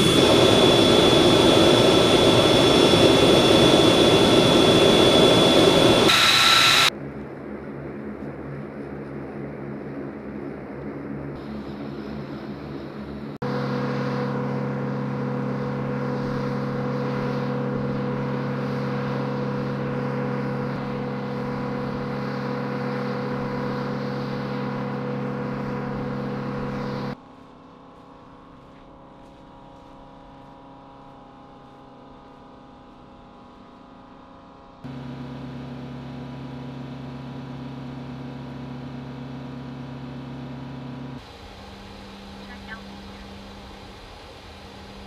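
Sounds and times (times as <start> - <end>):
aircraft engines droning: 0.0 - 45.0.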